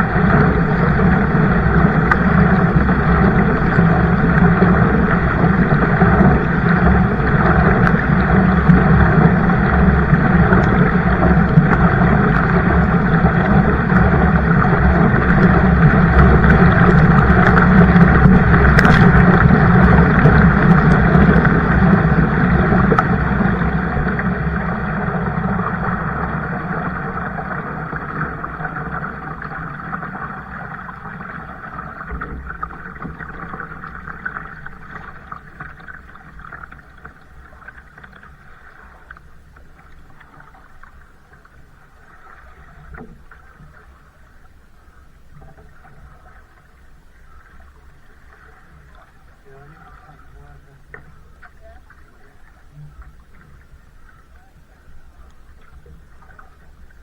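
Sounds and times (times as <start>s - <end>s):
boat rushing on water: 0.0s - 57.0s.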